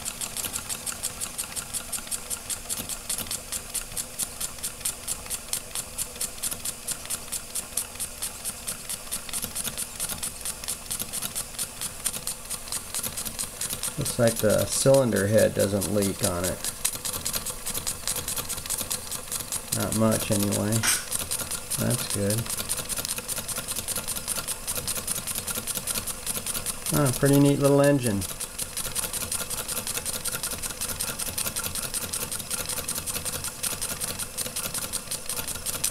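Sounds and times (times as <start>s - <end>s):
toy steam engine ticking: 0.0s - 35.9s.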